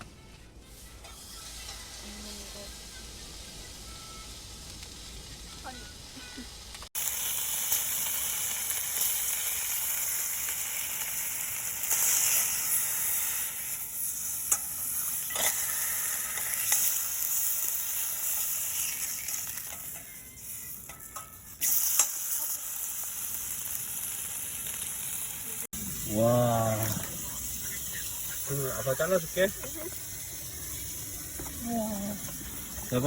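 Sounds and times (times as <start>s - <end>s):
food sizzling in a pan: 0.6s - 33.0s.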